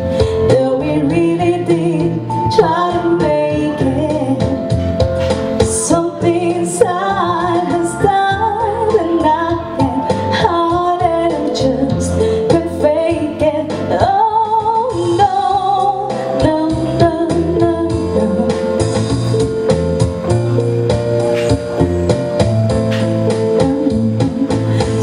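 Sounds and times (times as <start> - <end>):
woman singing: 0.0 - 4.8, 5.6 - 19.0, 23.2 - 25.0.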